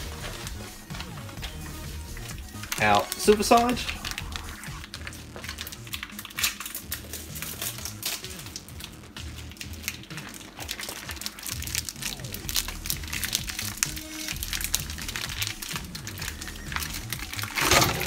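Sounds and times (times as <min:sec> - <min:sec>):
background music: 0:00.0 - 0:18.0
plastic packaging crinkling: 0:00.0 - 0:18.0.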